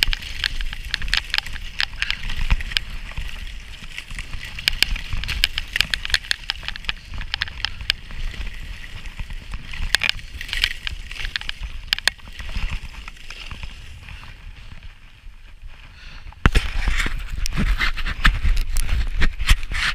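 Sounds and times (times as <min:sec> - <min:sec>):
low wind rumble on microphone: 0:00.0 - 0:19.9
skis scraping over snow: 0:00.0 - 0:19.9.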